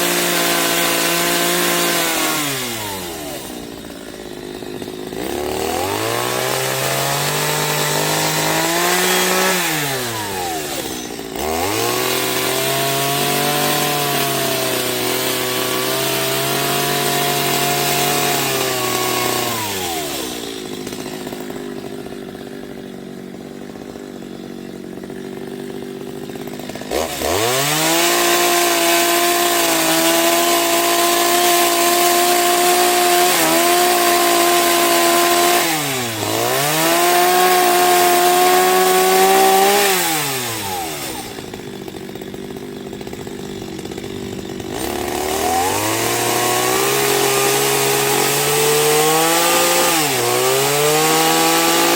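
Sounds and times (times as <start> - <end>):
chainsaw idling and revving: 0.0 - 51.9.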